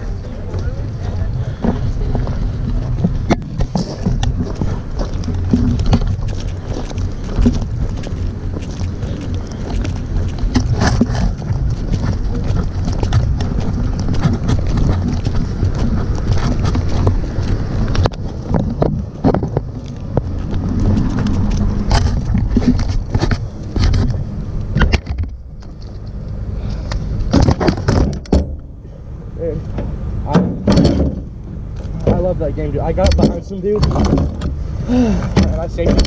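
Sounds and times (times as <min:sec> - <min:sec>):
microphone handling rumble: 0:00.0 - 0:36.0.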